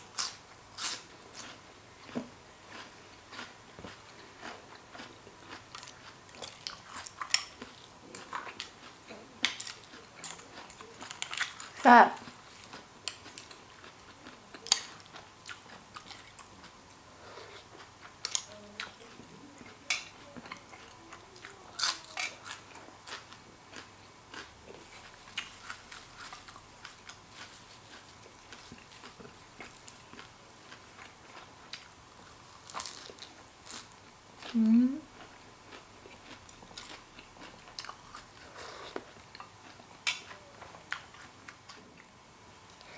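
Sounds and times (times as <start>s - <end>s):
close-miked chewing: 0.1s - 42.9s.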